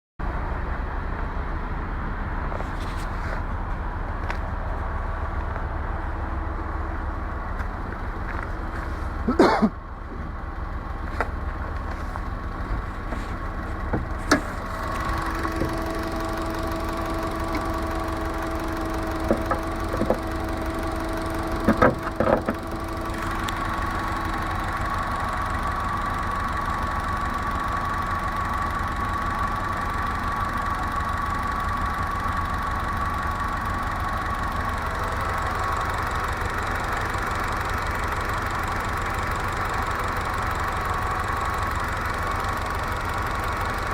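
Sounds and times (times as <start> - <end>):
car engine running: 0.2 - 43.9
engine knocking: 7.8 - 43.9.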